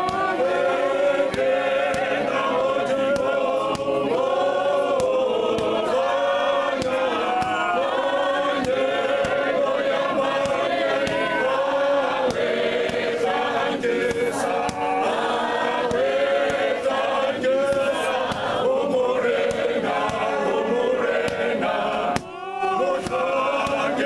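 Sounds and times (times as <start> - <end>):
hand claps: 0.0 - 24.0
male choir singing a cappella: 0.0 - 24.0.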